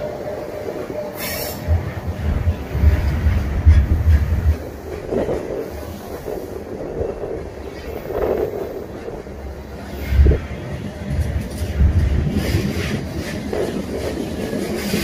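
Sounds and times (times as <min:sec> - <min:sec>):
train wheels rumbling on rails: 0:00.0 - 0:15.0
wheels clacking over rail joints: 0:00.8 - 0:15.0.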